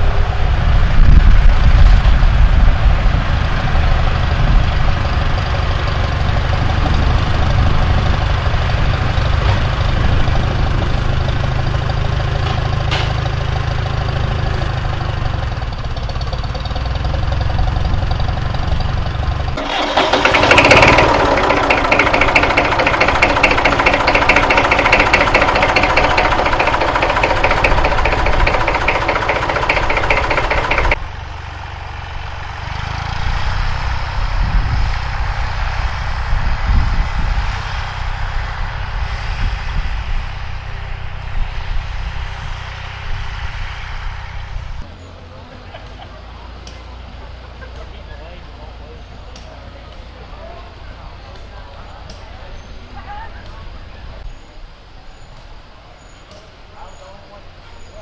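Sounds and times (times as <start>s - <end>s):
tractor engine rumbling: 0.0s - 58.0s
engine with fast even beat: 0.9s - 53.6s.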